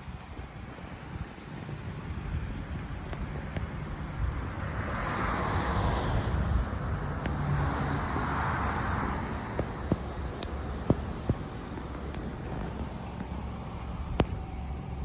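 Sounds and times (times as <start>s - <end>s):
low traffic rumble: 0.0s - 15.0s
passing vehicles: 0.0s - 15.0s.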